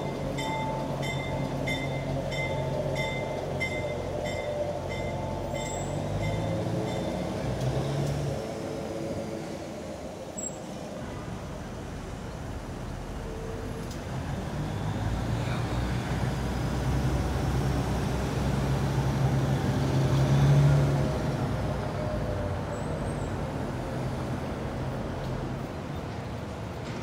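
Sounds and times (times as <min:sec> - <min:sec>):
diesel locomotive engine hum: 0:00.0 - 0:27.0.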